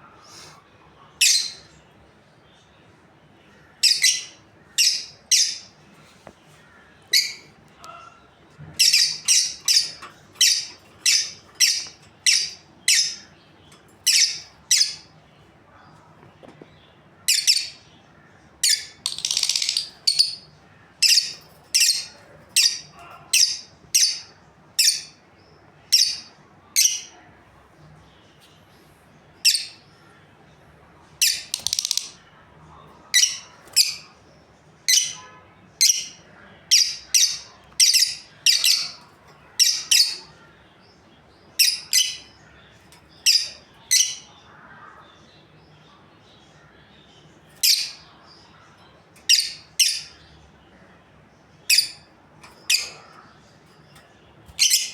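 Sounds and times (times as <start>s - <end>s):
lovebirds chirping: 0.0s - 54.9s.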